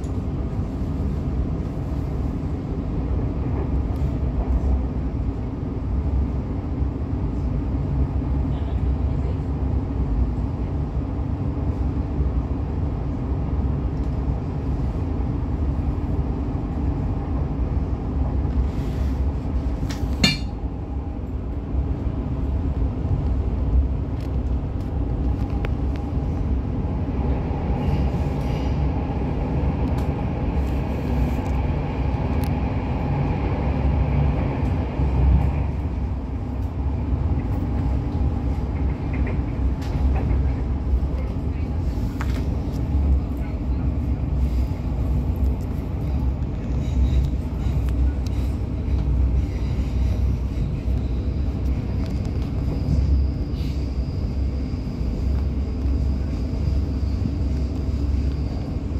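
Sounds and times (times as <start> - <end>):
train wheels rumbling on rails: 0.0 - 58.9.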